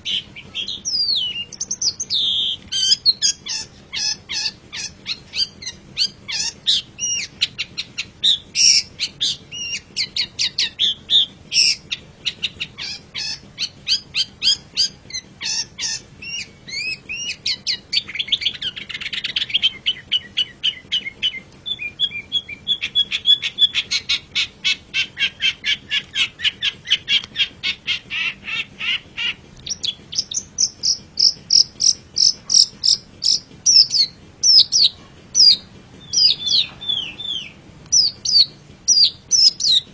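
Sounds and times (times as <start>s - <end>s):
shrike singing chattering song: 0.0s - 39.9s.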